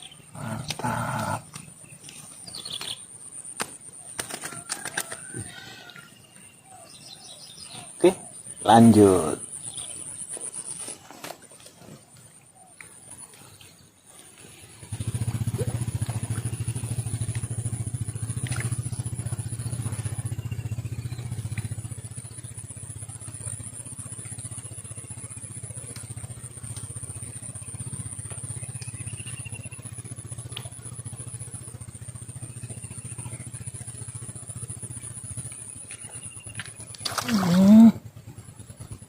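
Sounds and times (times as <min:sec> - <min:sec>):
small engine running: 0:00.0 - 0:12.1, 0:12.8 - 0:39.0.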